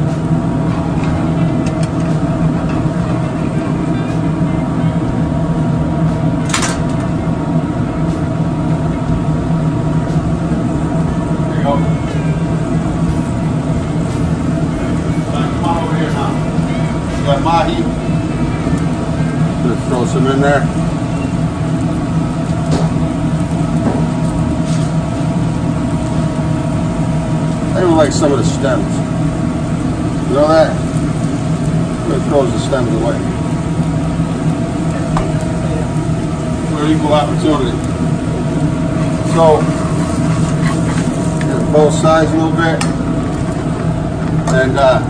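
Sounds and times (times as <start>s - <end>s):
gas burners roaring: 0.0s - 45.0s
ventilation hum: 0.0s - 45.0s.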